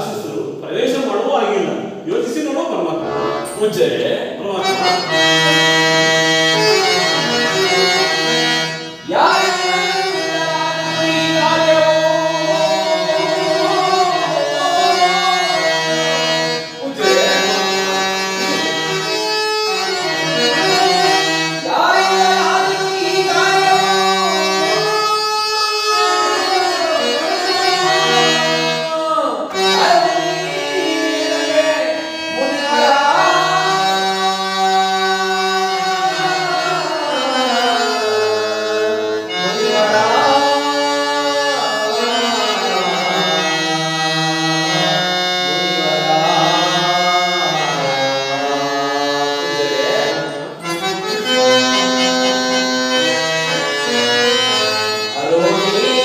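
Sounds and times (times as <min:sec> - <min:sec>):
instrument holding steady notes: 0:01.4 - 0:56.0
person singing: 0:04.6 - 0:56.0.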